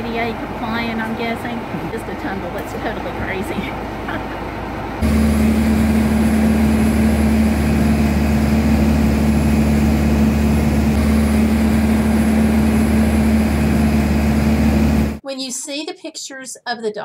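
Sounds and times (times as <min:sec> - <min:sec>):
boat engine droning: 0:00.0 - 0:15.2.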